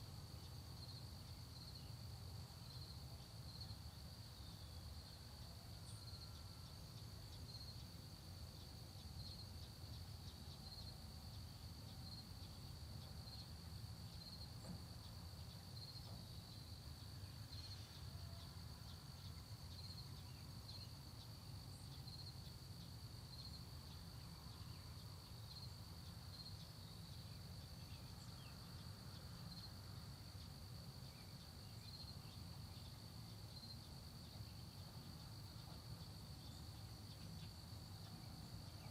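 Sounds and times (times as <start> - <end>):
crickets trilling: 0.2 - 38.9.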